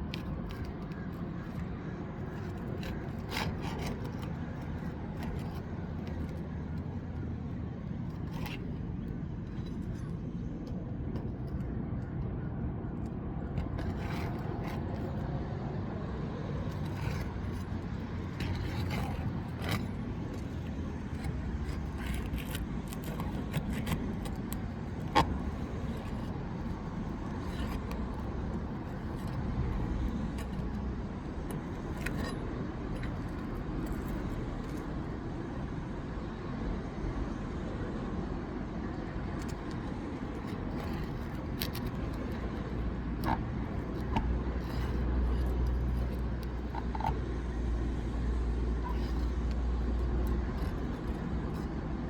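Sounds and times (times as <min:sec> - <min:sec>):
scraping and clicking on roof shingles: 0:00.0 - 0:36.4, 0:38.8 - 0:52.0.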